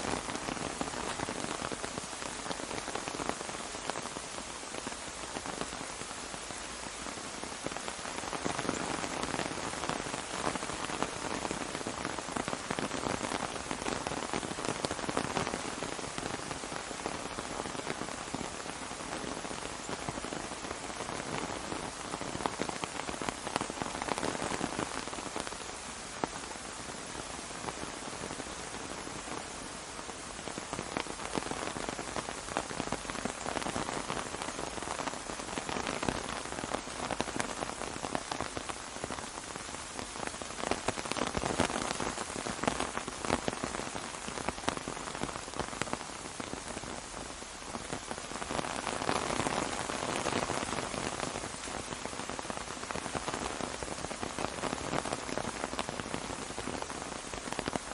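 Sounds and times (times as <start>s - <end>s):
rain pattering on an umbrella: 0.0s - 57.9s.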